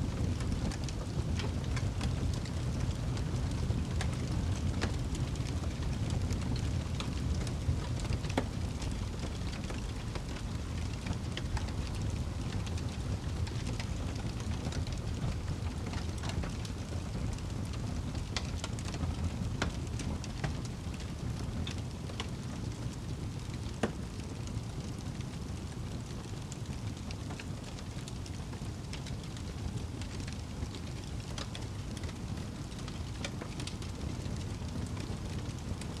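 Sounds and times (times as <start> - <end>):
fire crackling: 0.0 - 36.0
low rumble of burning: 0.0 - 36.0.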